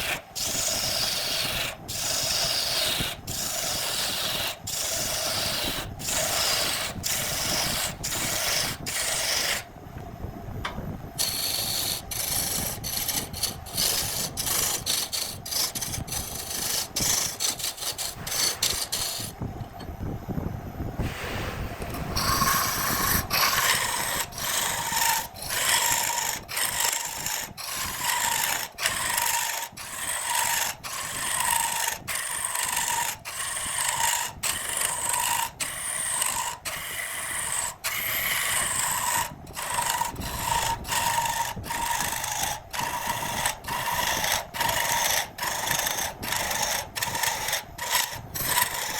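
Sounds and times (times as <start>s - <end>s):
lathe tool scraping wood: 0.0s - 9.6s, 11.2s - 19.4s, 21.0s - 48.9s.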